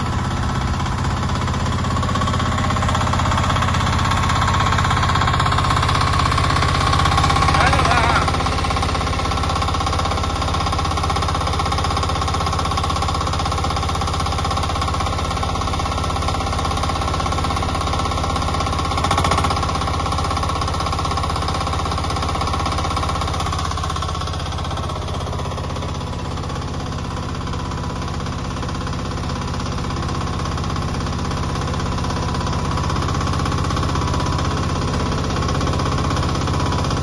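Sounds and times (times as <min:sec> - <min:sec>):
small excavator engine running: 0:00.0 - 0:37.0.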